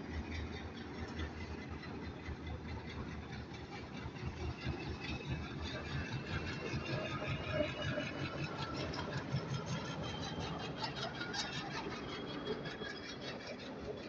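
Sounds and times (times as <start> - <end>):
diesel locomotive engine running: 0.0 - 14.0
passenger coaches rolling past: 0.0 - 14.0.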